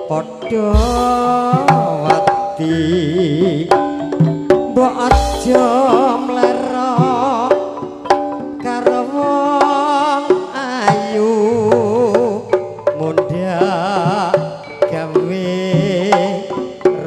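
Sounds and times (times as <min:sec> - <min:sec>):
pitched melody notes: 0:00.0 - 0:17.0
wavering vibrato melody: 0:00.0 - 0:17.0
sharp hand-drum strokes: 0:00.7 - 0:17.0.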